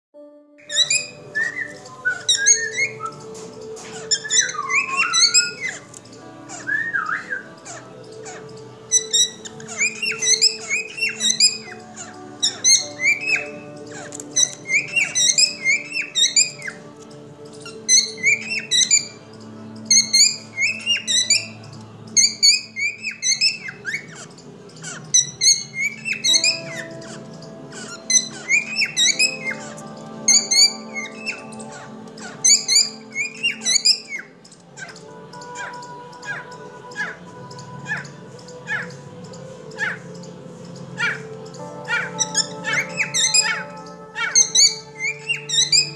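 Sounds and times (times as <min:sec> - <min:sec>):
cockatiel whistling: 0:00.6 - 0:16.8, 0:17.5 - 0:39.0, 0:39.7 - 0:40.3, 0:41.0 - 0:45.9.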